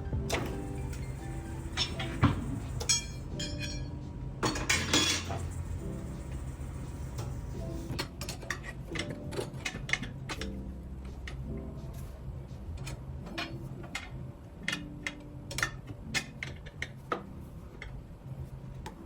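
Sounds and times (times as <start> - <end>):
lo-fi background music: 0.0 - 19.0.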